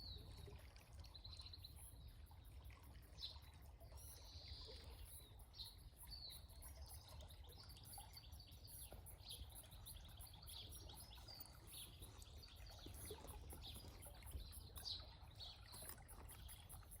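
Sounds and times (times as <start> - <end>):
stream trickling: 0.0 - 17.0.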